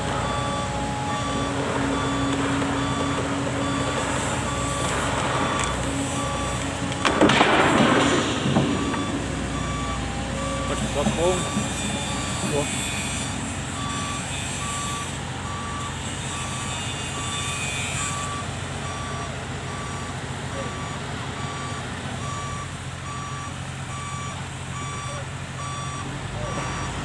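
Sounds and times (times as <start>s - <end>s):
diesel engine running: 0.0s - 27.0s
excavator travel alarm beeping: 0.0s - 27.0s.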